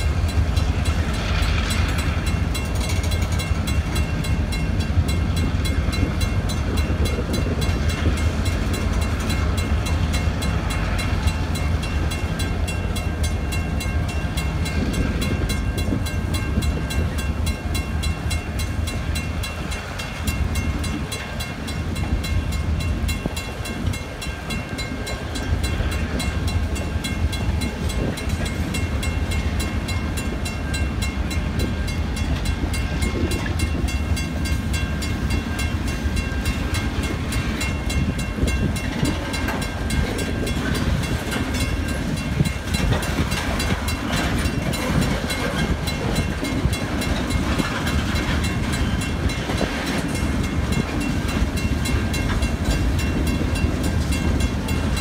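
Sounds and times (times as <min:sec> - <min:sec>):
crossing warning bell ringing: 0:00.0 - 0:55.0
freight train wheels on rails: 0:00.0 - 0:55.0.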